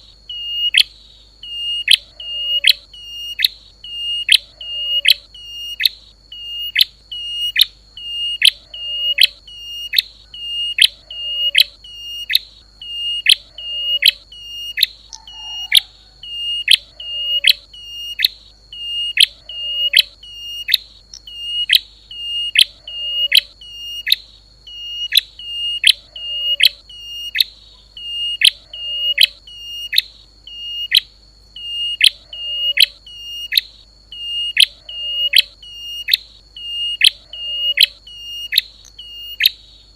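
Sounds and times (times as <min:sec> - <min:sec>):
bird sharp high chirps: 0:00.0 - 0:39.7
constant high whine: 0:00.0 - 0:39.9.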